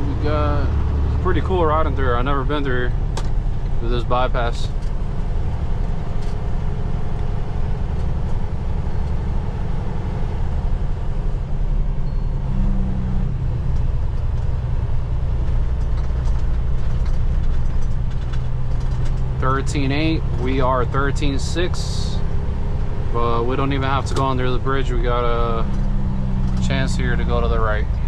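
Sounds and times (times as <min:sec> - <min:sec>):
diesel truck engine droning: 0:00.0 - 0:28.0.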